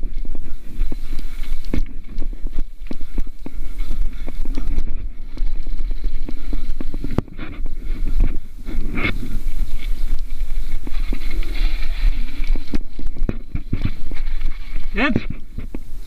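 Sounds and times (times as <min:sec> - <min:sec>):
bike knocks and rattles: 0:00.0 - 0:15.9
wind buffeting microphone: 0:00.0 - 0:16.0.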